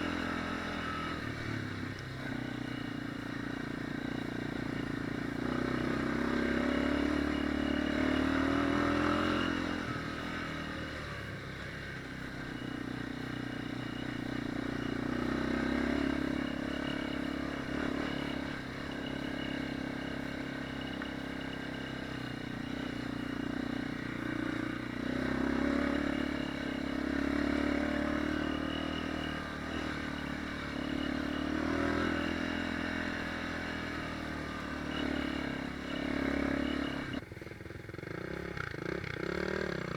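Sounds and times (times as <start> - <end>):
dirt bike engine revving: 0.0 - 37.2, 38.0 - 39.9.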